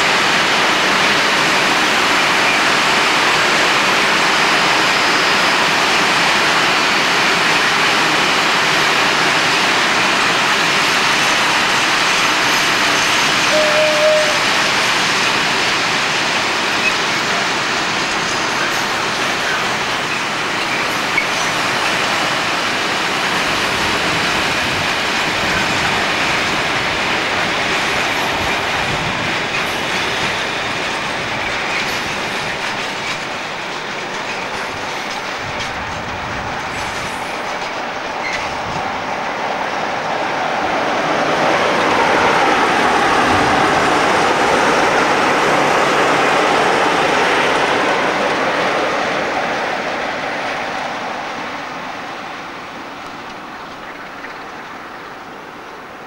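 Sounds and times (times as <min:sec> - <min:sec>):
train rolling past: 0:00.0 - 0:56.0.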